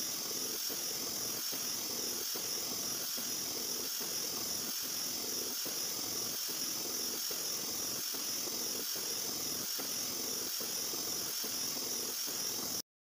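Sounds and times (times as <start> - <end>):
milling machine high hiss: 0.0 - 12.8.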